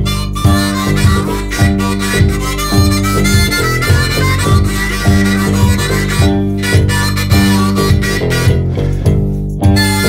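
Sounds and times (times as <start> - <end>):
band music with steady beat: 0.0 - 10.0.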